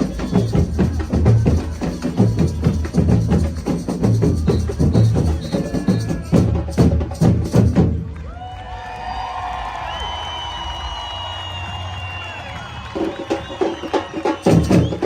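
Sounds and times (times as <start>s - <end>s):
crowd noise: 0.0s - 15.0s
samba percussion drumming: 0.0s - 15.0s.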